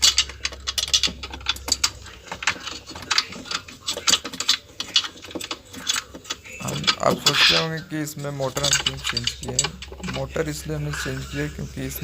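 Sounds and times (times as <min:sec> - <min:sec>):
parts clicking and knocking: 0:00.0 - 0:12.0.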